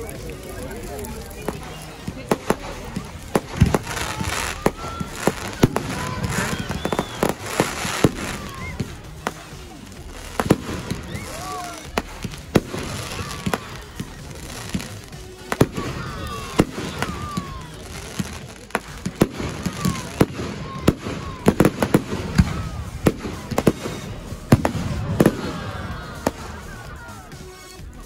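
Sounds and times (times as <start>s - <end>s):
fireworks bursting with sharp bangs: 0.0s - 28.0s.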